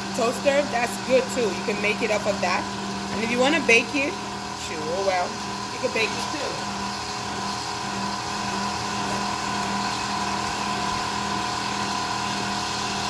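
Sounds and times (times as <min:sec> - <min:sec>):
blender churning thick batter: 0:00.0 - 0:13.0.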